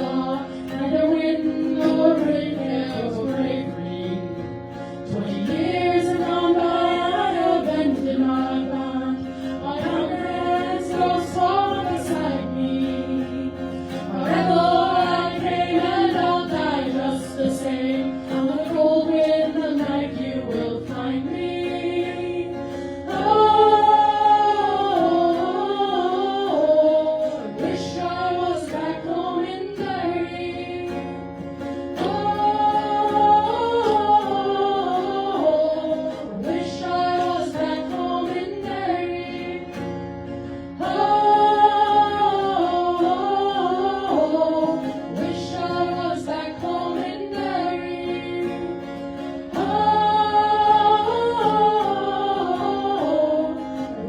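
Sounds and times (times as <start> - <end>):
voices singing in harmony: 0.0 - 54.0.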